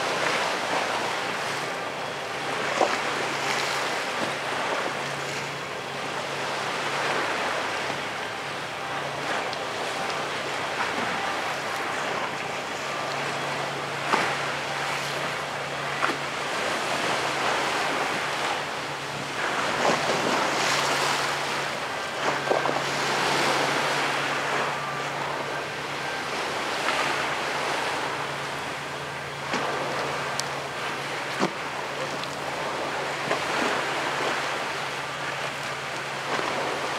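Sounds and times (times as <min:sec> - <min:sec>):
choppy sea water: 0:00.0 - 0:36.9
ferry engine hum: 0:00.0 - 0:36.9
wind: 0:00.0 - 0:36.9.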